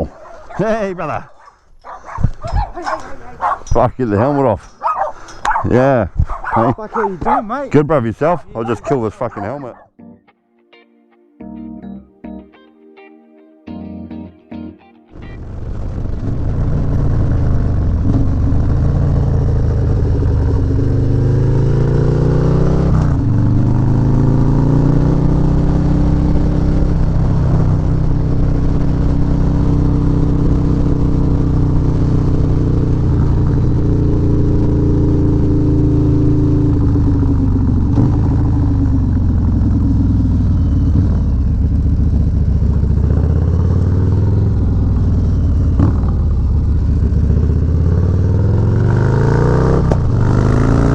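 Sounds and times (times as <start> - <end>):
motorcycle engine accelerating: 0.0 - 9.9, 15.1 - 50.9.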